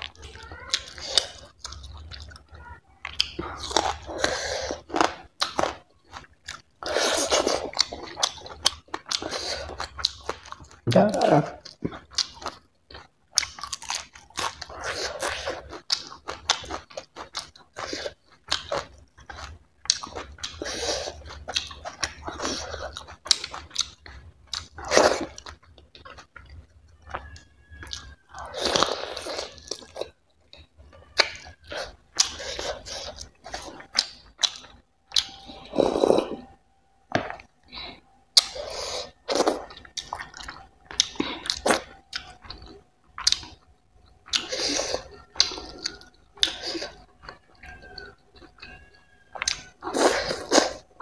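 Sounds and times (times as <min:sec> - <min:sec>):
wet chewing and lip-smacking: 0:00.0 - 0:36.1, 0:37.1 - 0:51.0.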